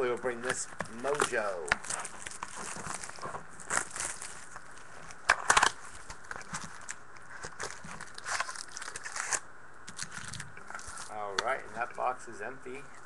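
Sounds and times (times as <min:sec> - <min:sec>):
foil wrappers crinkling and tearing: 0:00.0 - 0:13.0.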